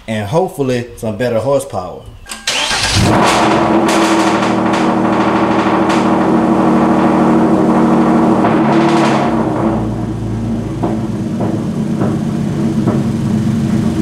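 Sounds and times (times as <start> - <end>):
car engine starting and idling: 2.2 - 14.0.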